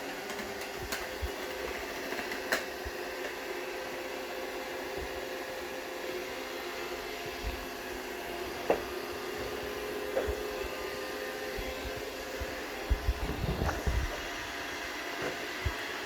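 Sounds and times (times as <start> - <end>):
robot vacuum motor whir: 0.0 - 16.0.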